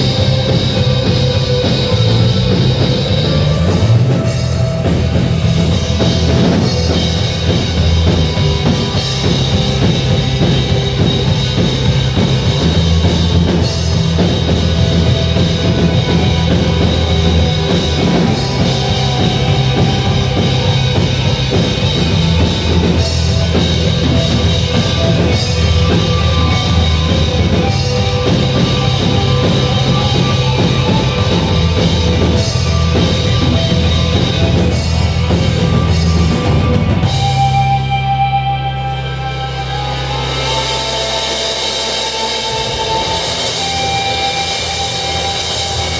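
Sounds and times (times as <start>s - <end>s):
drum kit beat: 0.0s - 45.9s
loud rock music: 0.0s - 45.9s
low bass: 0.0s - 45.9s.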